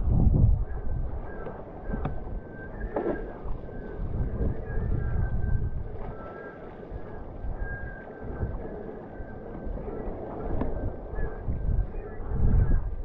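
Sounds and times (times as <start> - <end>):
wind buffeting microphone: 0.0 - 13.0
thin high whistle: 0.7 - 12.8.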